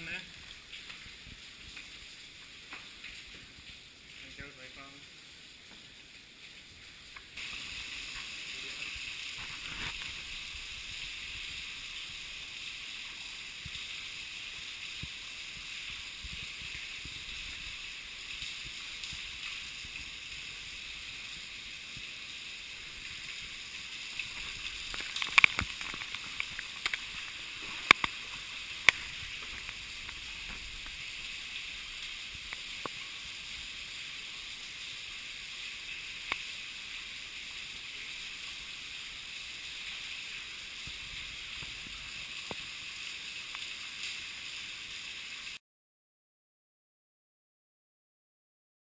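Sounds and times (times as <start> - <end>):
running water in a cave: 0.0 - 45.6.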